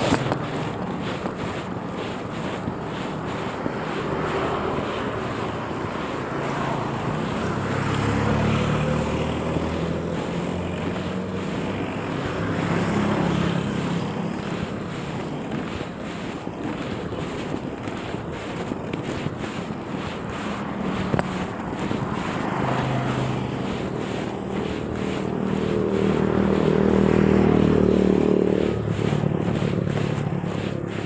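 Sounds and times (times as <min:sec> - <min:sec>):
motorcycle engines passing: 0:00.0 - 0:31.0
wind buffeting microphone: 0:00.0 - 0:31.0.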